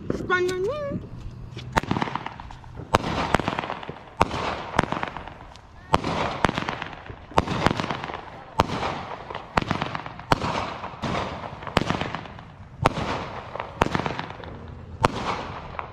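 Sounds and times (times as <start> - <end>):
fireworks bangs: 0.0 - 15.9.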